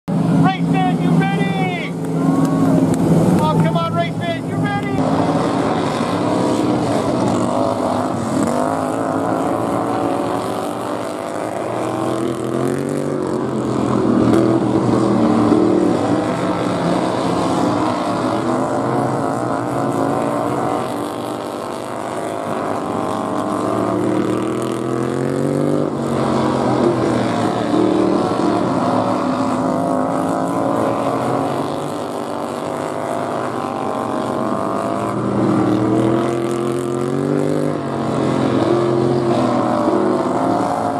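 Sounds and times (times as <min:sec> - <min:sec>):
small engines revving: 0:00.1 - 0:40.9.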